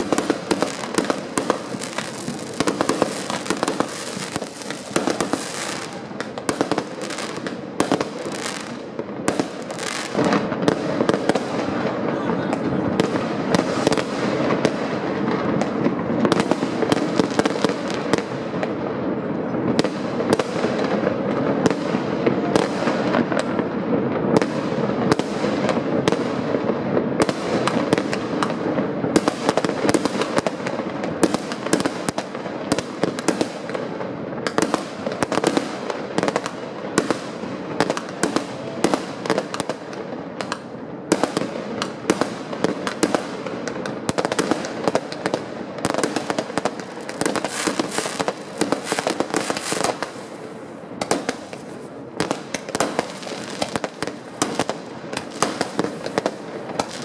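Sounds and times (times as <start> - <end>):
fireworks bangs and pops: 0.0 - 57.0.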